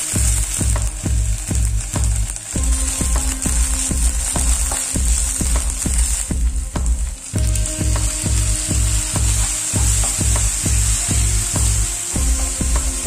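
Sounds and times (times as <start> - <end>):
background music with bass beat: 0.0 - 13.0
onions sizzling in hot oil: 0.0 - 13.0.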